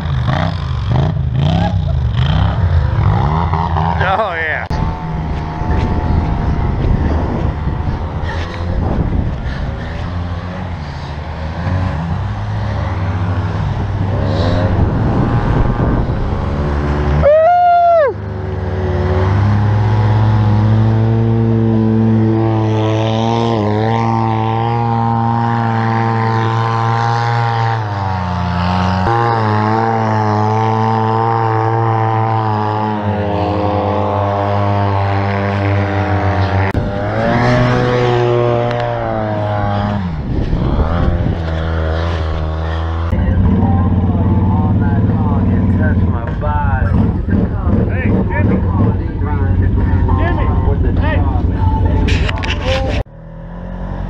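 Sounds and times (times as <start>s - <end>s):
utv engines revving: 0.0s - 54.0s.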